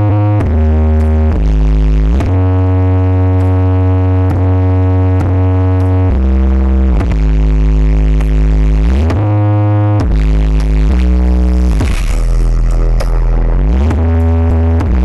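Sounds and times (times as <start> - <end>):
loud electronic dance music: 0.0 - 15.0
sliding synth bass line: 0.0 - 15.0.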